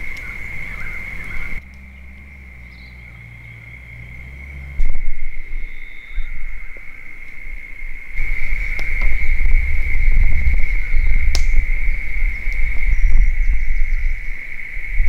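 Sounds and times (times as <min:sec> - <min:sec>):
high-pitched insect trill: 0:00.0 - 0:15.0
low rumble: 0:00.0 - 0:15.0.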